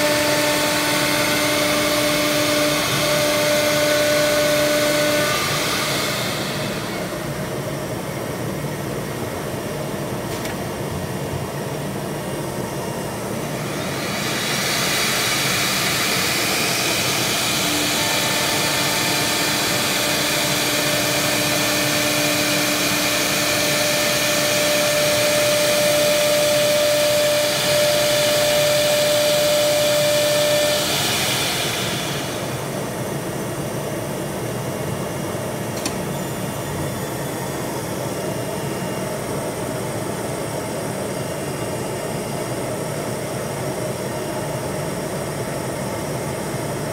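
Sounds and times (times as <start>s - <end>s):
cnc router cutting wood: 0.0s - 46.9s.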